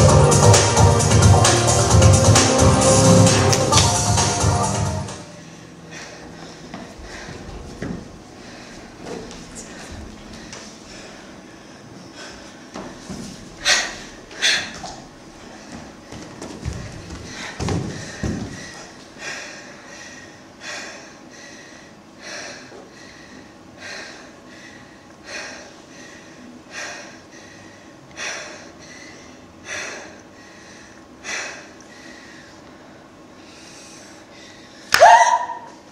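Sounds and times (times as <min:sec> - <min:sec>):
loud sharp breaths: 0:05.3 - 0:07.7, 0:08.3 - 0:35.7.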